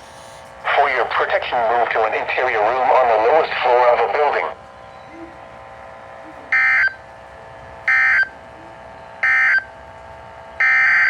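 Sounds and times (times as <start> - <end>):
faint steady hum: 0.3 - 9.8.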